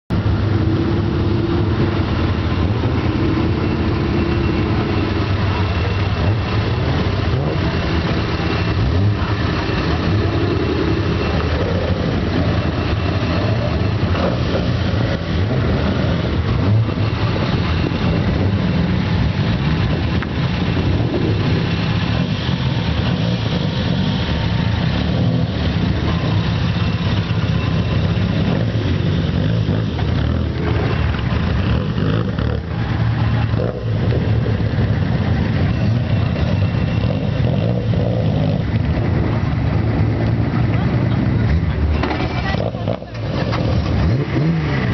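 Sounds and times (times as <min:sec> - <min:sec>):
loud car engines idling and revving: 0:00.0 - 0:44.9.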